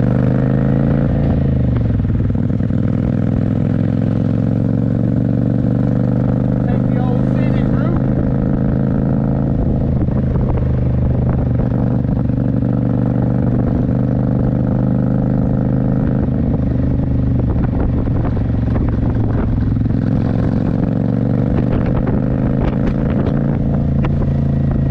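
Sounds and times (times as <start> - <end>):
motorcycle engine running steadily: 0.0 - 24.9.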